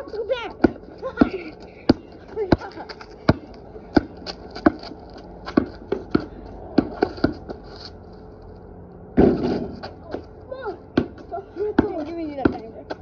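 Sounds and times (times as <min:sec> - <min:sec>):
basketball bouncing on concrete: 0:00.0 - 0:07.6, 0:09.2 - 0:13.0.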